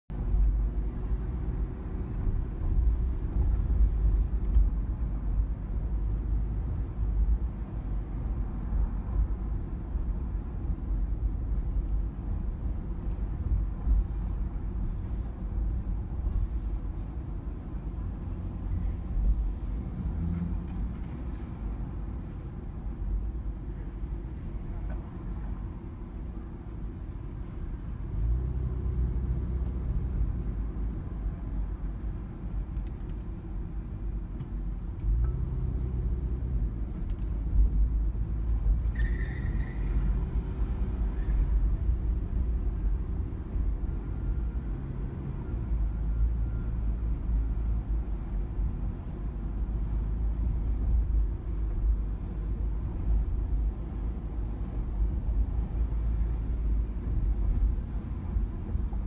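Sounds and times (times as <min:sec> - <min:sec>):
car engine and tyres rumbling: 0:00.1 - 0:59.0.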